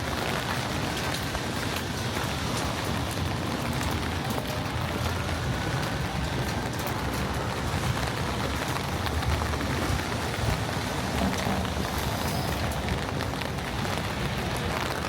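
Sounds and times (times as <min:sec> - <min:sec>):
raindrops ticking: 0:00.0 - 0:15.0
rain hissing: 0:00.1 - 0:15.0.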